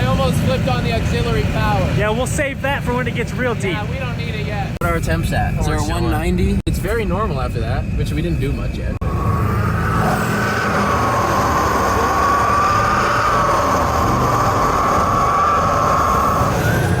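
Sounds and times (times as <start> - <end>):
large engine whining and rumbling: 0.0 - 17.0.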